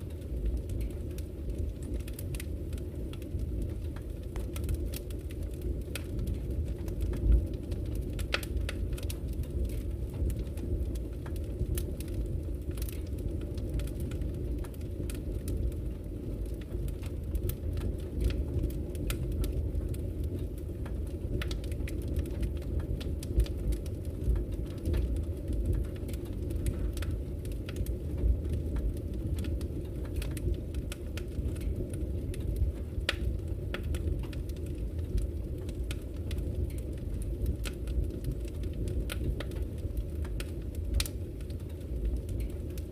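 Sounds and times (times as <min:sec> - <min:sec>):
fire crackling and popping: 0:00.0 - 0:42.9
fire flames rumbling: 0:00.0 - 0:42.9.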